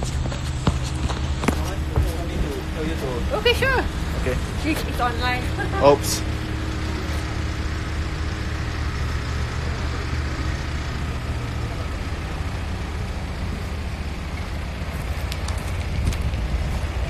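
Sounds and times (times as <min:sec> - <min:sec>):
background rush: 0:00.0 - 0:17.0
engine idling: 0:00.0 - 0:17.0.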